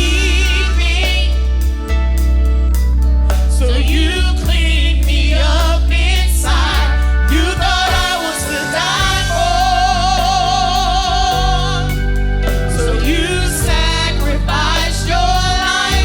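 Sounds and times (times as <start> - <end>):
gospel singing: 0.0 - 16.0
instrumental accompaniment: 0.0 - 16.0.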